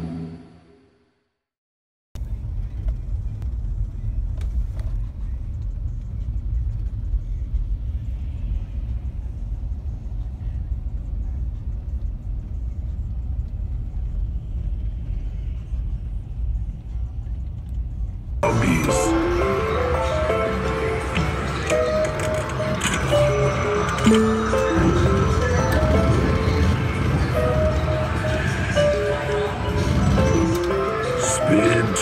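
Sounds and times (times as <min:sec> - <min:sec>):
car engine and road noise: 0:02.2 - 0:32.0.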